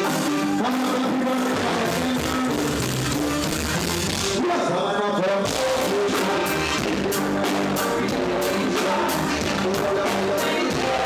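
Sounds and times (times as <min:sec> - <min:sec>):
reggae band playing: 0:00.0 - 0:11.0.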